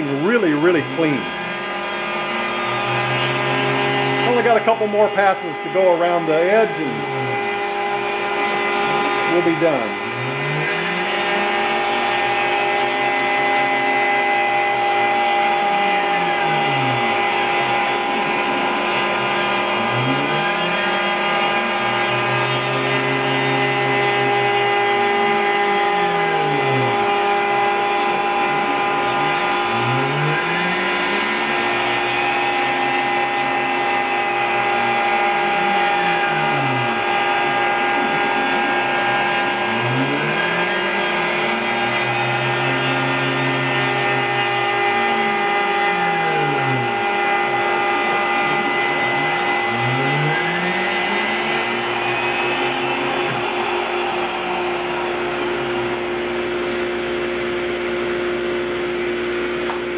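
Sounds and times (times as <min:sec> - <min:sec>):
axis motors whining: 0:00.0 - 0:59.9
dust collection vacuum: 0:00.0 - 0:59.9
router spindle cutting: 0:00.0 - 0:59.9.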